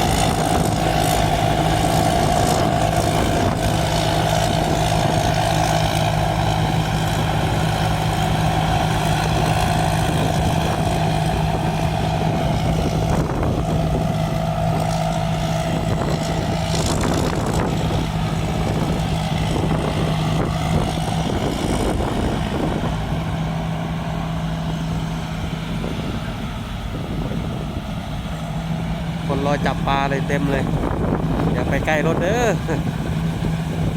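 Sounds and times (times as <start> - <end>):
combine harvester engine hum: 0.0 - 33.9
harvester mechanical noise: 0.0 - 33.9.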